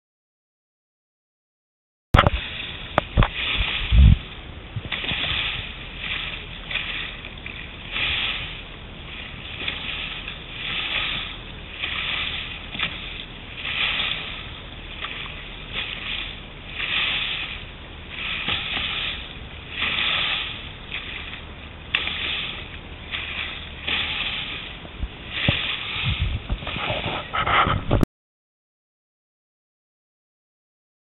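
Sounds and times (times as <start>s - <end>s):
water splashing along boat hull: 2.2s - 28.0s.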